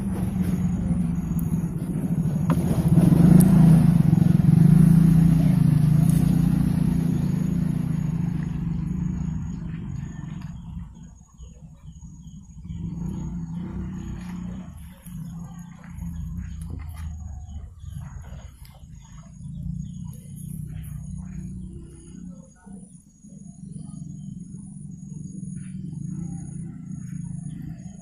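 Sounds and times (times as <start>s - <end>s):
engine passing by: 0.0s - 28.0s.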